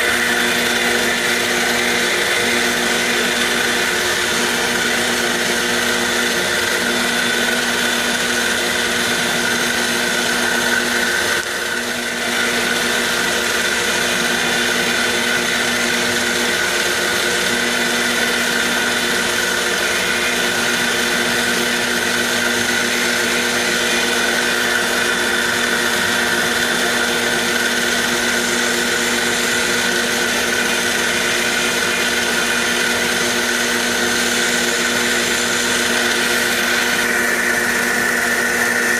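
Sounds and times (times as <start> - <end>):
cnc spindle motor whine: 0.0 - 38.9.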